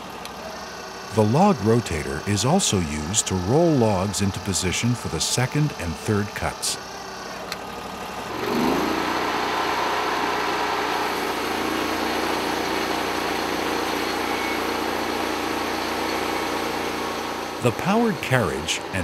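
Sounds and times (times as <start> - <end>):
sawmill engine revving: 0.2 - 19.0.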